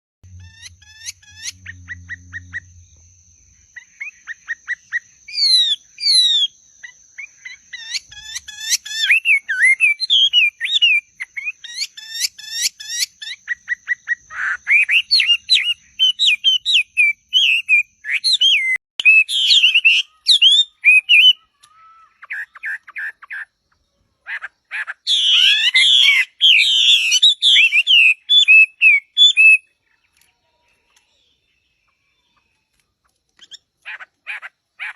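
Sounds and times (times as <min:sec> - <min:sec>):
birds singing and calling: 0:00.2 - 0:34.9.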